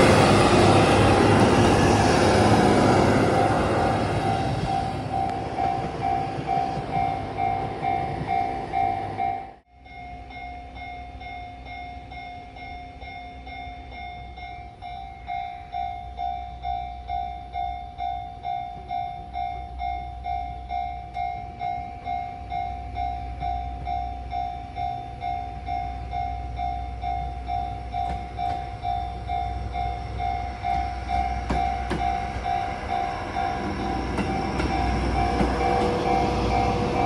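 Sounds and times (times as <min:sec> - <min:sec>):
diesel railcar running: 0:00.0 - 0:37.0
level-crossing alarm ringing: 0:00.0 - 0:37.0.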